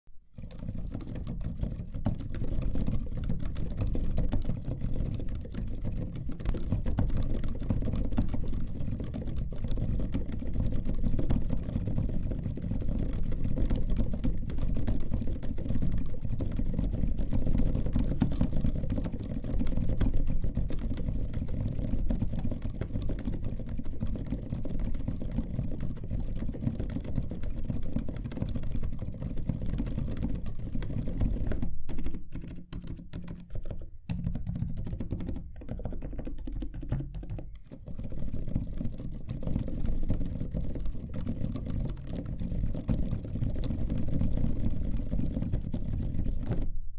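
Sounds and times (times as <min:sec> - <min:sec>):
muted keyboard typing: 0:00.3 - 0:46.8.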